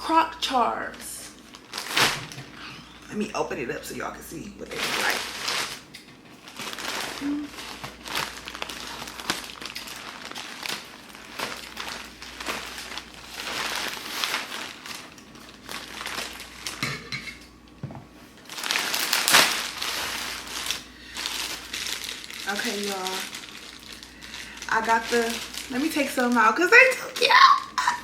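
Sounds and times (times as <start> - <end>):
packaging crinkling: 1.4 - 2.6, 4.7 - 16.9, 18.4 - 28.0.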